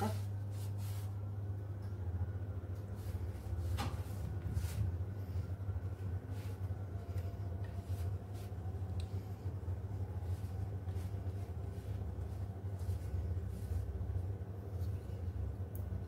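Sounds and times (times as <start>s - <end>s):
pastry brush strokes: 0.0s - 1.4s, 2.7s - 16.0s
steady low hum: 0.0s - 16.0s.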